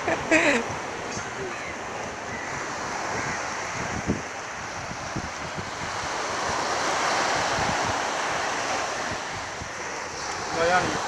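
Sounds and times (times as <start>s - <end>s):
sea waves washing on beach: 0.0s - 11.0s
wind buffeting microphone: 0.0s - 11.0s.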